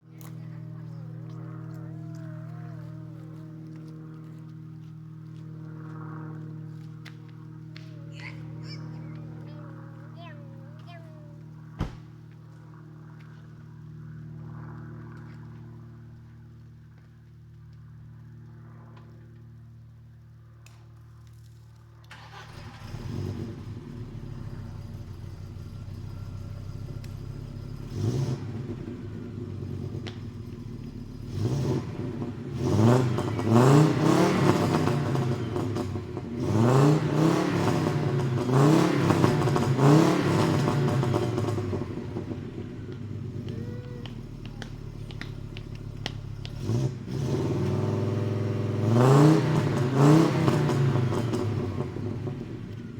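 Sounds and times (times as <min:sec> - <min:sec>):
car engine idling and revving: 0:00.0 - 0:20.8, 0:22.0 - 0:52.9.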